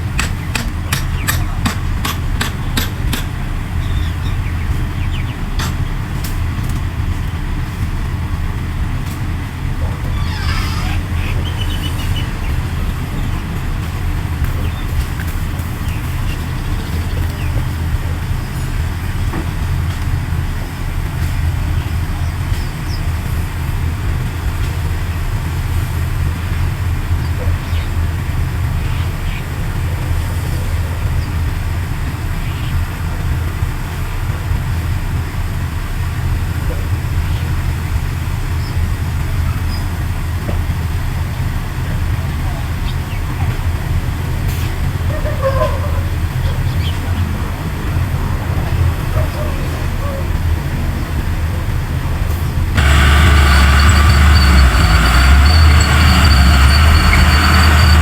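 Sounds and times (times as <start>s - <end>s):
bulldozer diesel engine rumbling: 0.0s - 58.0s.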